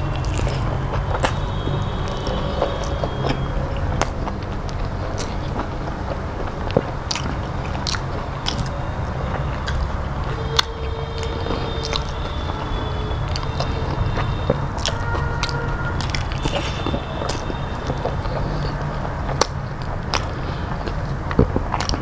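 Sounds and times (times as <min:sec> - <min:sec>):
person chewing with lip smacks: 0:00.0 - 0:22.0
steady low hum: 0:00.0 - 0:22.0
wet squishing of fingers: 0:00.0 - 0:22.0.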